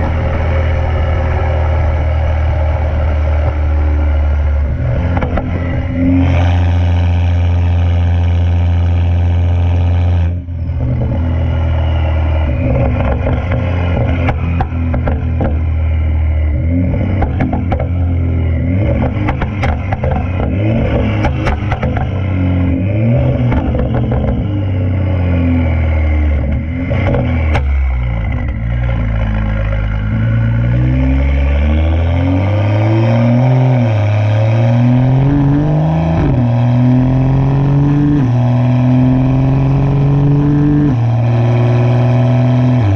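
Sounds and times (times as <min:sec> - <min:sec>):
car exhaust droning: 0:00.0 - 0:42.9
exhaust cracks: 0:00.0 - 0:42.9.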